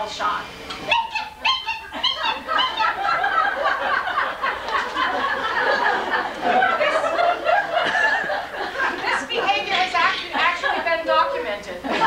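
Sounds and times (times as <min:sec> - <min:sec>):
crowd laughing: 0:01.4 - 0:12.0.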